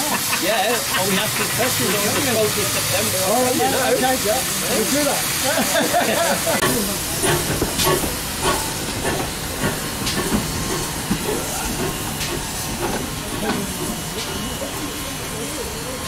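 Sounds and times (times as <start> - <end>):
steam hissing: 0.0 - 16.0
locomotive wheels clanking: 0.2 - 16.0.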